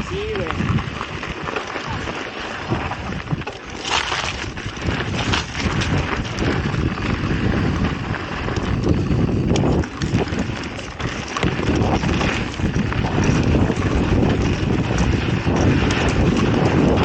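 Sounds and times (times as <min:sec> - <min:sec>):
bike rattles and knocks: 0:00.0 - 0:17.0
steady rumble of riding: 0:00.0 - 0:17.0
wind buffeting microphone: 0:00.0 - 0:17.0.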